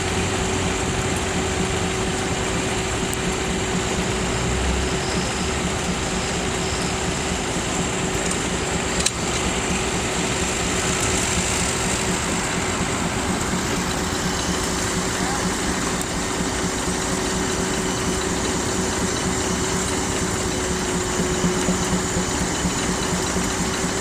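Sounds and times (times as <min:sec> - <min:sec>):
sawmill machinery humming: 0:00.0 - 0:24.0.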